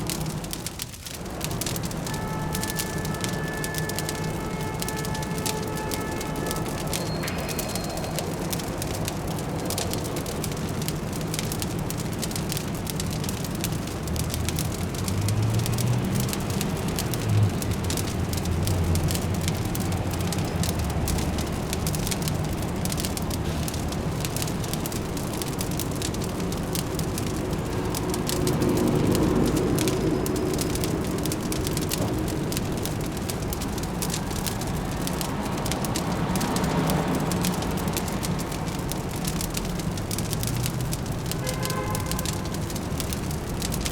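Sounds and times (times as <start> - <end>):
fireplace crackling and popping: 0.0 - 43.9
low traffic hum: 0.0 - 43.9.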